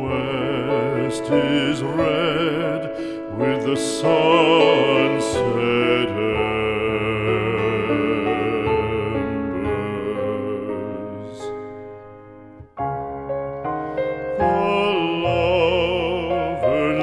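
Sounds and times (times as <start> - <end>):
piano accompaniment: 0.0 - 17.0.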